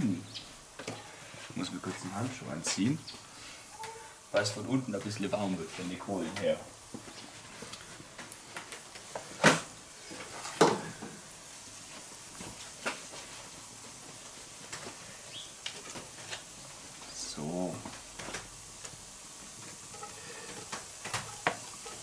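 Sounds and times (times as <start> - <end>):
onions frying with crackling: 0.0 - 22.0.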